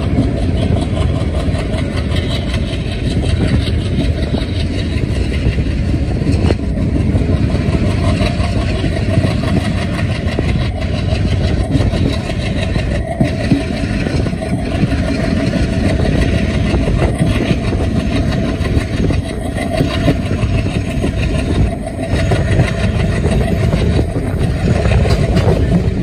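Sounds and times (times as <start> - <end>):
train wheels on track: 0.0 - 26.0
wind on microphone: 0.0 - 26.0.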